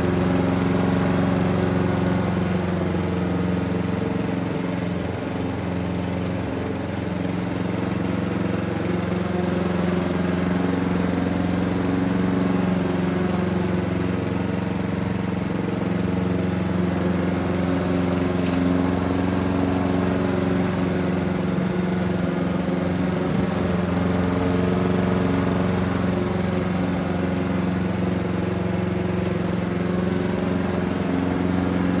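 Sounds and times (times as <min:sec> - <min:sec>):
lawn mower running: 0:00.0 - 0:32.0.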